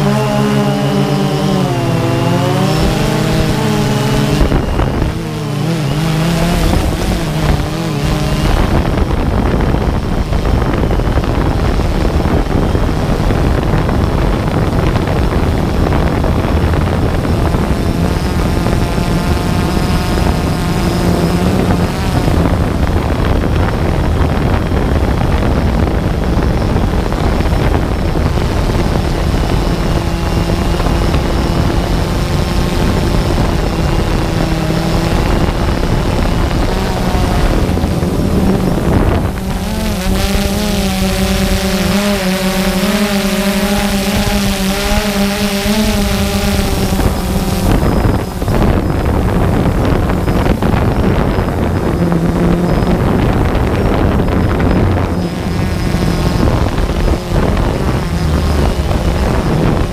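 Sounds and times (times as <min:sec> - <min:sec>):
drone propellers whirring: 0:00.0 - 0:59.9
wind buffeting microphone: 0:00.0 - 0:59.9.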